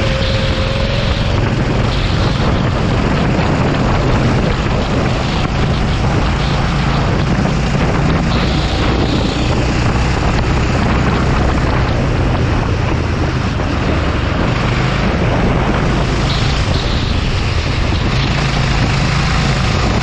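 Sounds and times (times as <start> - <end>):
racing kart engine running: 0.0 - 20.0
wind noise rushing: 0.0 - 20.0.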